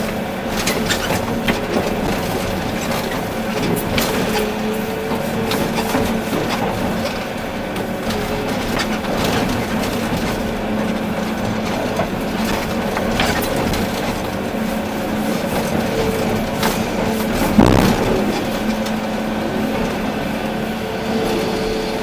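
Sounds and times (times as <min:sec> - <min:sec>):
excavator engine and hydraulic drone: 0:00.0 - 0:22.0.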